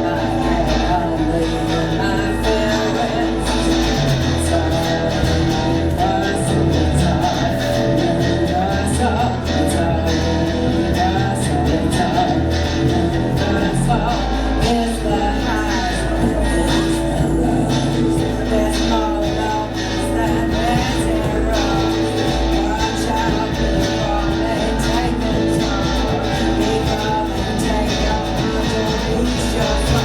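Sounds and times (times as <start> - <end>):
bass guitar: 0.0 - 30.0
drums: 0.0 - 30.0
electric guitar: 0.0 - 30.0
person singing: 0.0 - 30.0.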